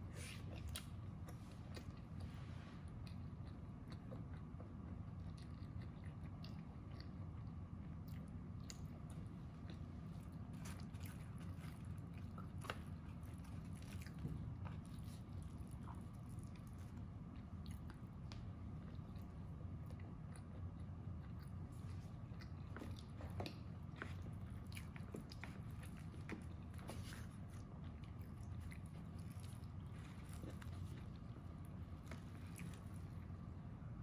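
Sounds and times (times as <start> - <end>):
wet chewing: 0.0 - 33.8.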